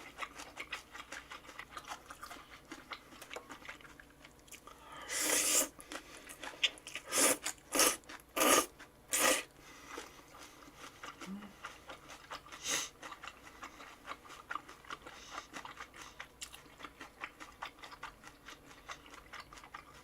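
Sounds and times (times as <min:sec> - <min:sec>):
wet chewing clicks: 0:00.0 - 0:04.7, 0:05.4 - 0:20.0.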